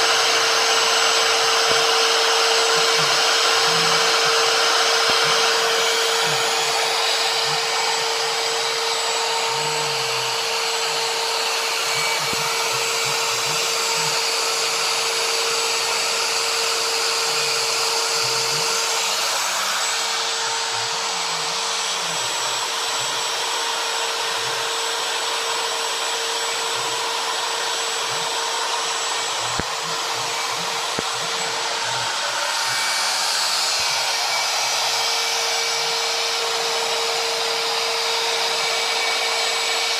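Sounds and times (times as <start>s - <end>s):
stepper motors humming: 0.0s - 39.5s
router cutting wood: 0.0s - 39.9s.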